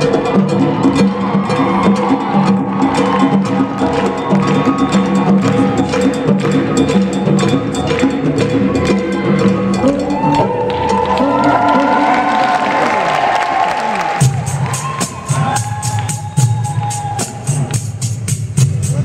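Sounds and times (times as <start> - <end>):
band playing samba: 0.0 - 19.0
congas and hand percussion: 0.0 - 19.0.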